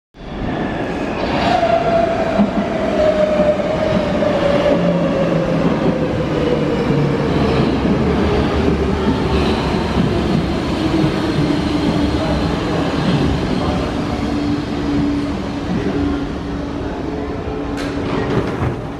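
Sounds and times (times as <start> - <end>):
train wheels rumbling on rails: 1.2 - 18.9.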